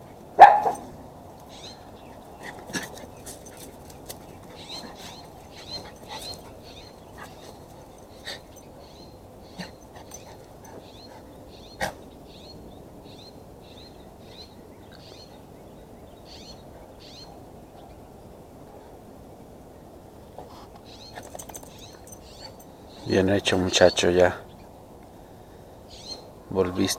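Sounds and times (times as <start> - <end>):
low background noise: 0.0 - 26.9
bird chirping: 0.4 - 18.3, 20.8 - 24.8, 25.9 - 26.9.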